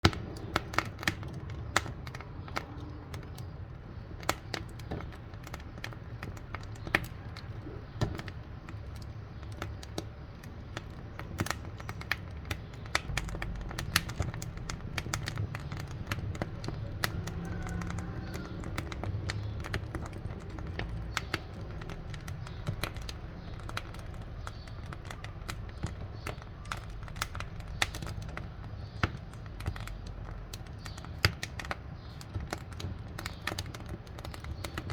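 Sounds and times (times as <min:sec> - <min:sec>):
low rumble of flame: 0:00.0 - 0:34.9
wood crackling and popping: 0:00.0 - 0:34.9.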